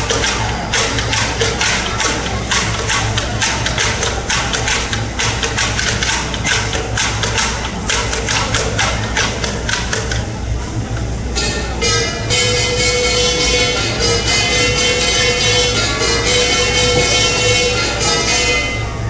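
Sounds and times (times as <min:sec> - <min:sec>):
low steady hum: 0:00.0 - 0:19.0
percussion playing driving beat: 0:00.0 - 0:19.0.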